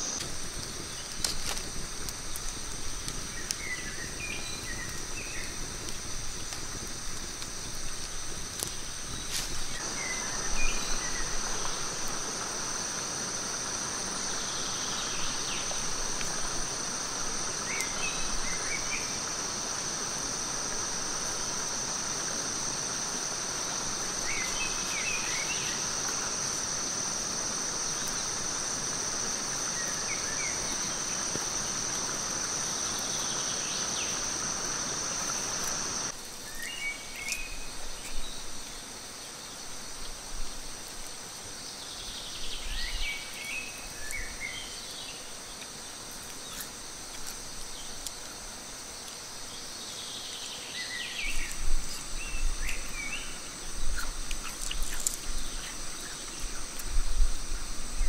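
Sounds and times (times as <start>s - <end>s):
crickets and cicadas trilling: 0.0s - 58.0s.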